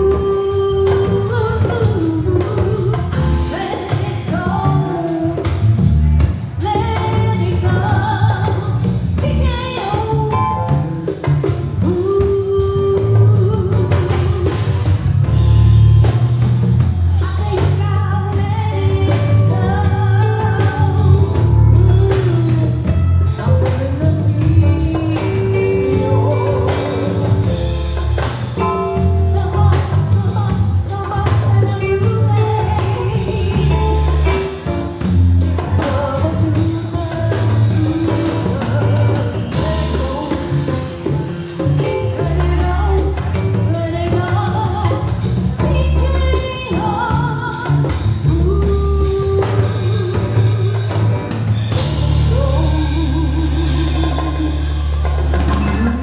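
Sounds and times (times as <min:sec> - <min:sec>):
person singing: 0:00.0 - 0:15.2, 0:17.1 - 0:28.0, 0:28.6 - 0:56.0
bass line: 0:00.0 - 0:56.0
drums: 0:00.0 - 0:56.0
live band music: 0:00.0 - 0:56.0.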